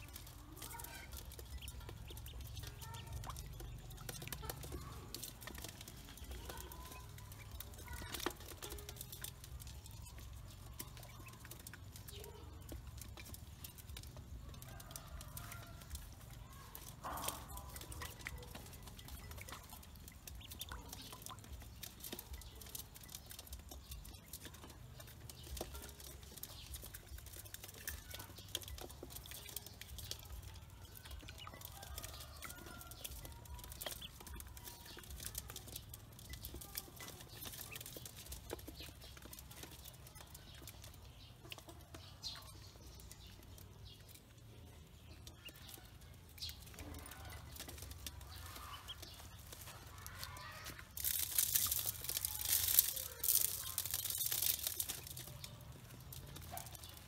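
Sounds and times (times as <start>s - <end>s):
bills pecking in metal bowl: 0.0s - 57.0s
ducklings peeping: 0.0s - 57.0s.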